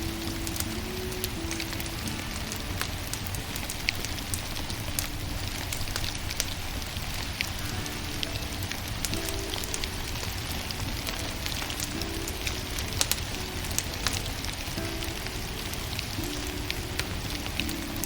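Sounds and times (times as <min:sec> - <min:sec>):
soft music notes: 0:00.0 - 0:18.0
wood fire crackling: 0:00.0 - 0:18.0.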